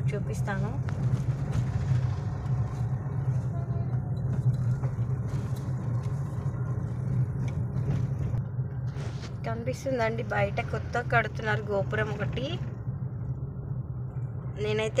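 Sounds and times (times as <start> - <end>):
car interior engine drone: 0.0 - 15.0.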